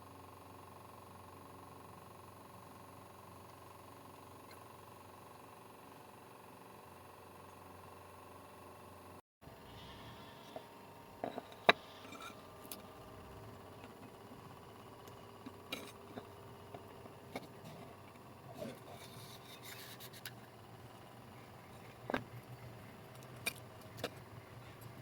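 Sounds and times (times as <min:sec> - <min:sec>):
faint hum: 0:00.0 - 0:25.0.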